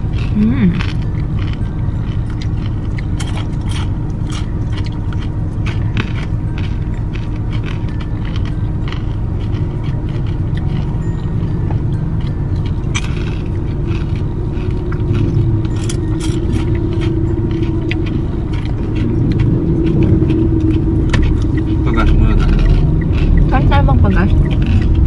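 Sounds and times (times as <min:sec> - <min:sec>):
engine and road rumble: 0:00.0 - 0:25.0
hum: 0:00.0 - 0:25.0.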